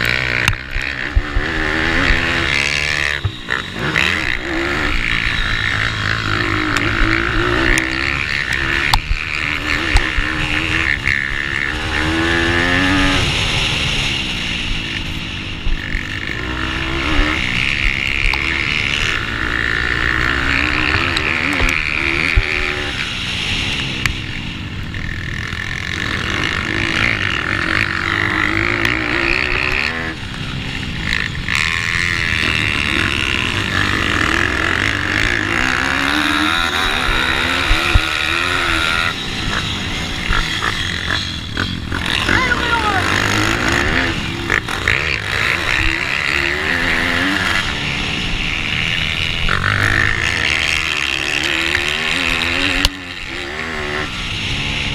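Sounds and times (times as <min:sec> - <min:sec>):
small motorbike engines revving: 0:00.0 - 0:54.9.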